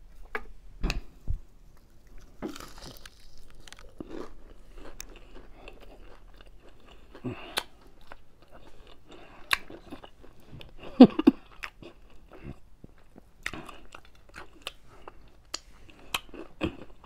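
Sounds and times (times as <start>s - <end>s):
chewing and crunching food: 0.2s - 17.0s.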